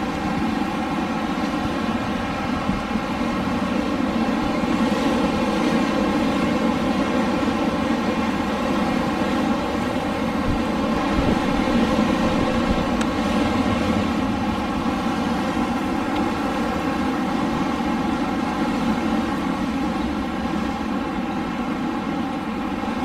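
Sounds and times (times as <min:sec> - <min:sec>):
steady rushing wind: 0:00.0 - 0:23.0.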